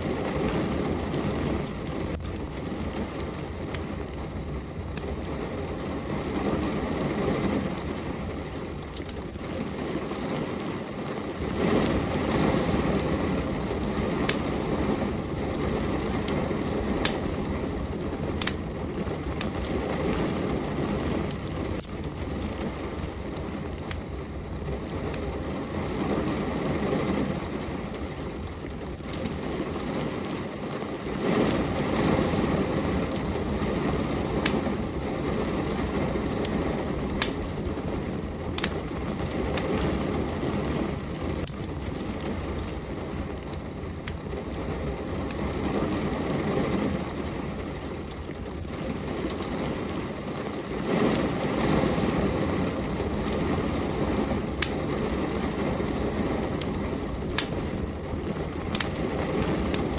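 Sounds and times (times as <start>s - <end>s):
steady rain falling: 0.0s - 59.9s
wood fire crackling and popping: 0.0s - 59.9s.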